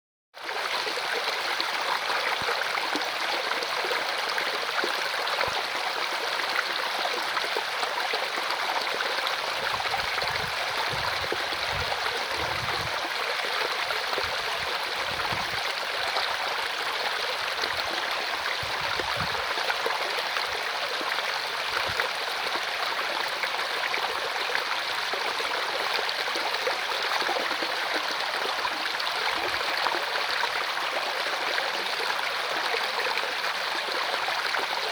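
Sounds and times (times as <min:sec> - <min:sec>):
stream water over rocks: 0:00.4 - 0:34.9.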